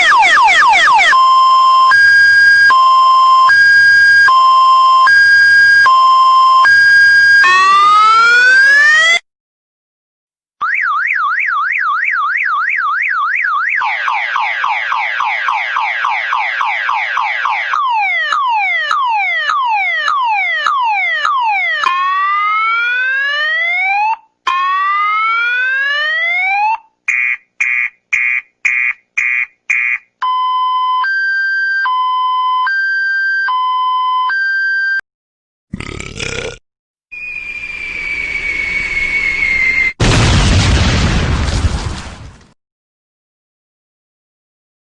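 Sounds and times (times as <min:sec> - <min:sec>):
electronic car alarm siren: 0:00.0 - 0:09.2, 0:10.6 - 0:35.0, 0:37.1 - 0:40.0.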